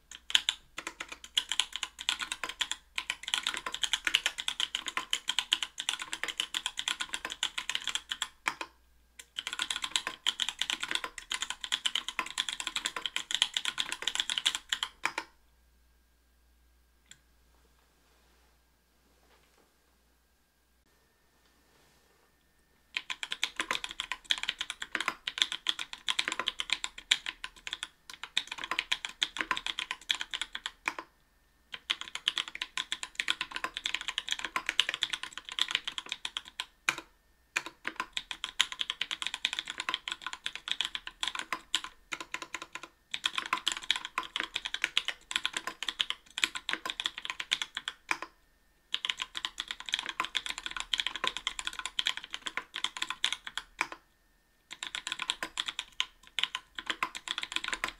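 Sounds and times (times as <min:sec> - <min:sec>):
mechanical keyboard typing: 0:00.1 - 0:15.3, 0:22.9 - 0:31.1, 0:31.7 - 0:48.3, 0:48.9 - 0:54.0, 0:54.7 - 0:57.9.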